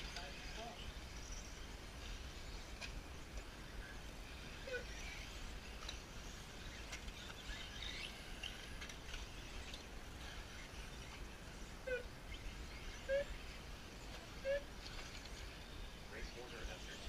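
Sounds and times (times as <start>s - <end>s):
faint chirps: 0.0s - 17.0s.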